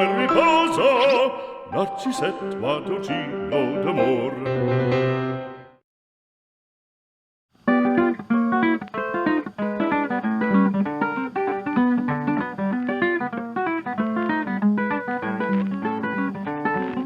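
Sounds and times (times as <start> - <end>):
acoustic guitar music: 0.0 - 5.0, 7.7 - 17.0.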